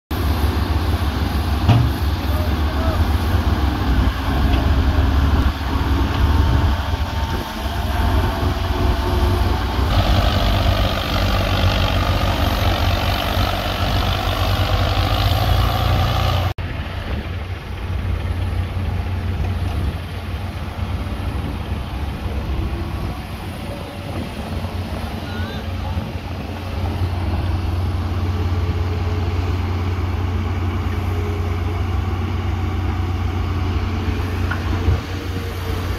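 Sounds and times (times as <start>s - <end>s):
excavator engine running: 0.1s - 35.9s
tractor diesel engine: 0.1s - 35.9s.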